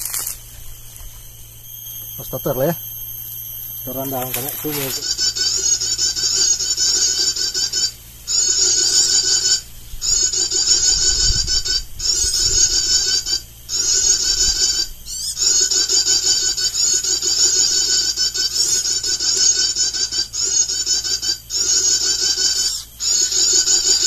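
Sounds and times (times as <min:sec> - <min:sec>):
high-pitched bird call twittering: 0:03.7 - 0:24.0.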